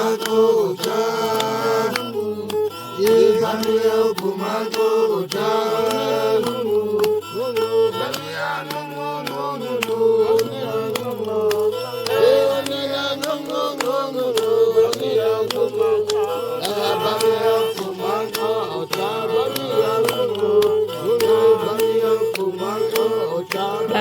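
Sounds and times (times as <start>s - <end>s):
chanted sung melody: 0.0s - 24.0s
clicking beat: 0.0s - 24.0s.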